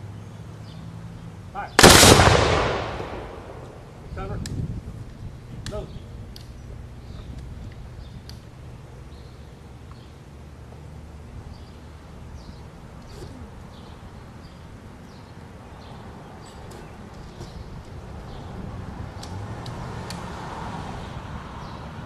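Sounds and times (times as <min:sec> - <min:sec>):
birds chirping: 0:00.0 - 0:04.4, 0:05.1 - 0:20.2.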